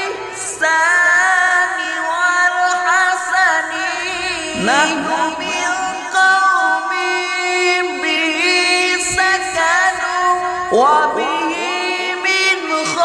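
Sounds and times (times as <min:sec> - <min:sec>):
person singing long held notes: 0:00.0 - 0:13.0.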